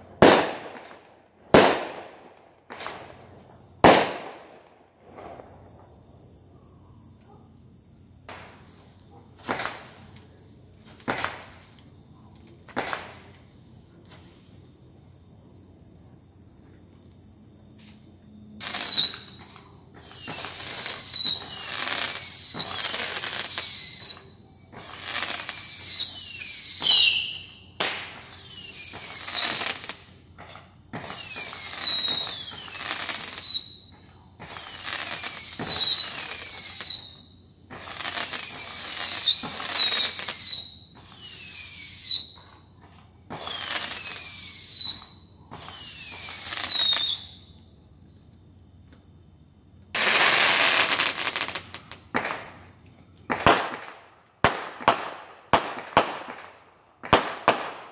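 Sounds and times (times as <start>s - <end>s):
fireworks cracks: 0.0s - 6.0s, 8.3s - 14.6s, 18.6s - 47.5s, 49.9s - 57.9s
fireworks whistles falling in pitch: 0.0s - 6.5s, 8.2s - 12.0s, 17.6s - 47.7s, 49.9s - 57.9s.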